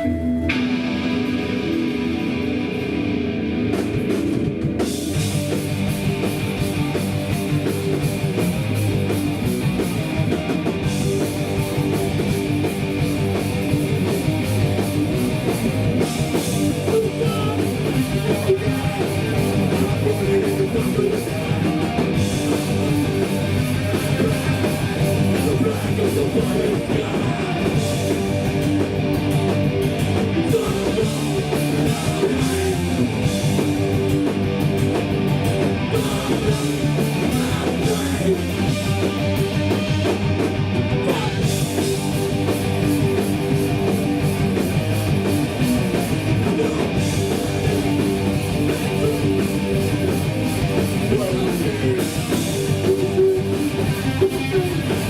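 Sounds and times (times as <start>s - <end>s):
distorted electric guitar: 0.0s - 55.0s
punk band playing live: 0.0s - 55.0s.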